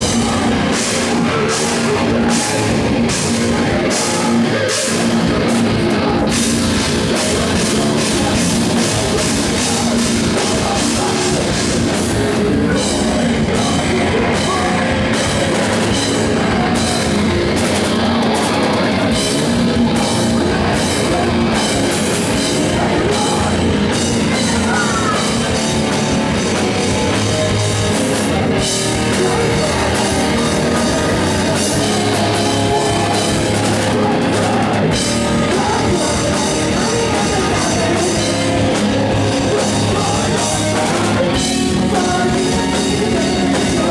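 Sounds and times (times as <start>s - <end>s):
bass guitar: 0.0s - 43.9s
distorted electric guitars: 0.0s - 43.9s.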